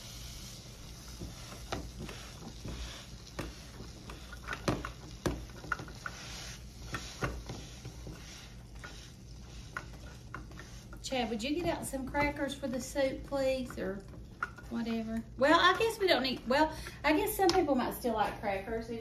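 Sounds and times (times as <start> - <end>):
spatula scraping a frying pan: 0.0 - 16.0.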